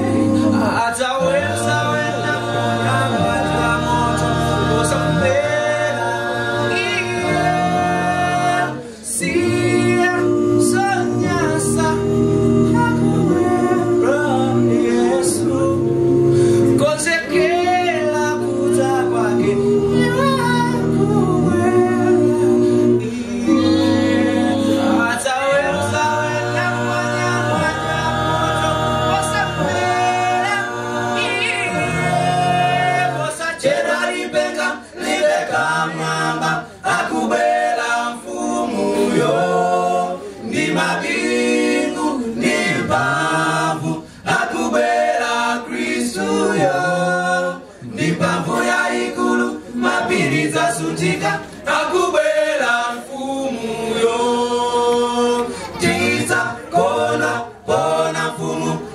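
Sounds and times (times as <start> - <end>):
male group singing in harmony: 0.0 - 58.9.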